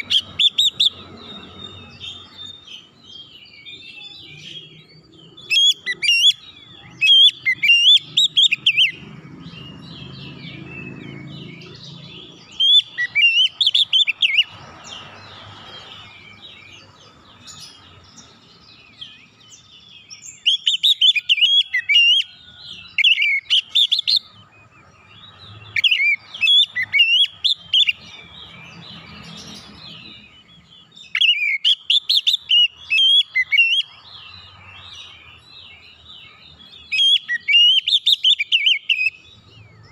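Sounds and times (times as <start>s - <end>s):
songbird singing varied phrases: 0.0s - 39.9s.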